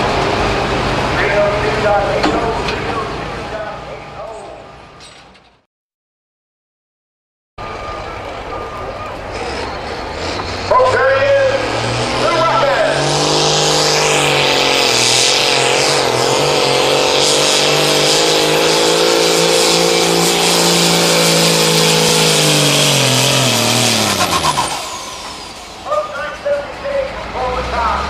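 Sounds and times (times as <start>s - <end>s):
tractor diesel engine at high revs: 0.0s - 4.0s, 7.7s - 28.0s.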